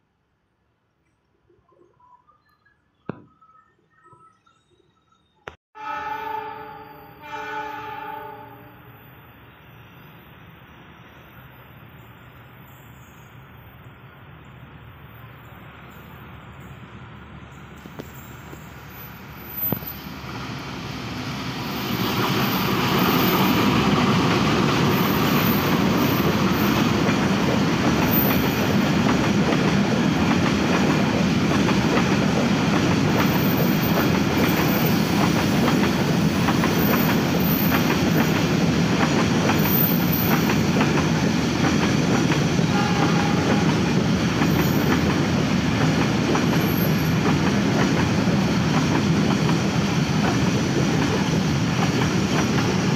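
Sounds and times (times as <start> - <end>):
train passing: 5.8 - 52.9.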